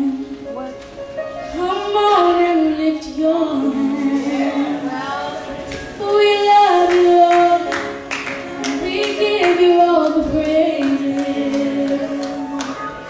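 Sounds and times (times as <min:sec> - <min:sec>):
person singing gospel: 0:01.6 - 0:08.1, 0:08.7 - 0:13.0.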